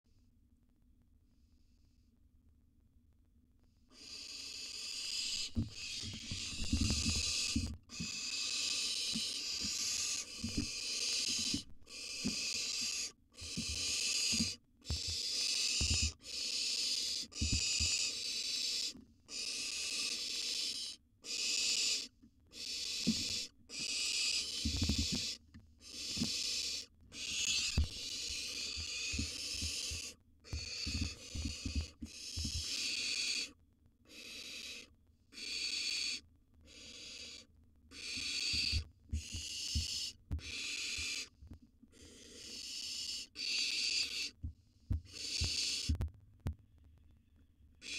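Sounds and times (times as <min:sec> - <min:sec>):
owl chicks hissing calls: 0:03.9 - 0:44.4, 0:45.0 - 0:46.0.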